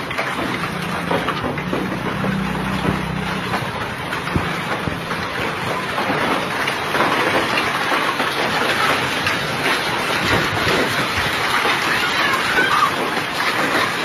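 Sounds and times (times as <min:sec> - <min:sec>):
hail and heavy rain pelting: 0:00.0 - 0:14.0.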